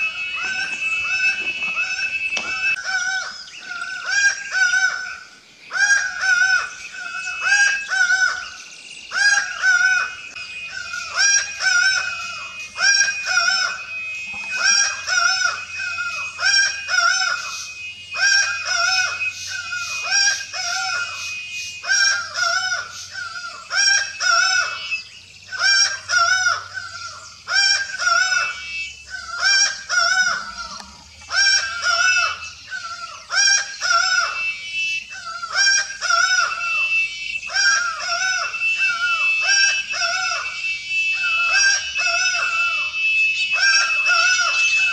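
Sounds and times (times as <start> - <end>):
falcon calling: 0.0 - 44.9.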